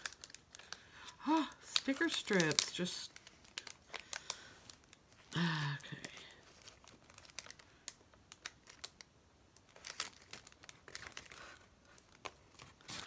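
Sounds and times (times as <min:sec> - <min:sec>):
sticker paper rustling and crinkling: 0:00.0 - 0:05.3, 0:05.9 - 0:13.0.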